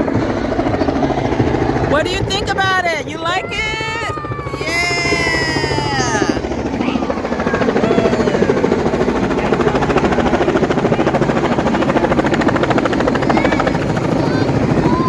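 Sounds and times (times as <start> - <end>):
helicopter rotor blades chopping: 0.0 - 15.0.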